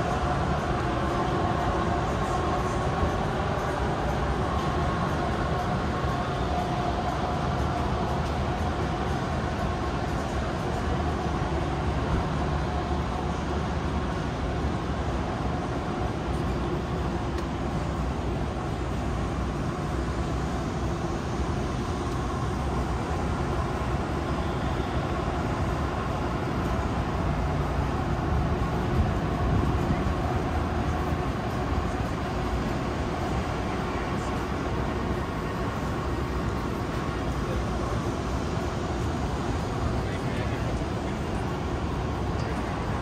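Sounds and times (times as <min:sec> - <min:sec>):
city traffic rumble: 0:00.0 - 0:43.0.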